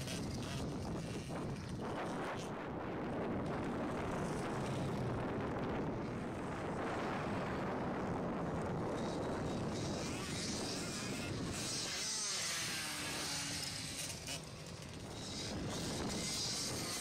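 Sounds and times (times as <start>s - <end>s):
dirt bike engines running: 0.0s - 17.0s.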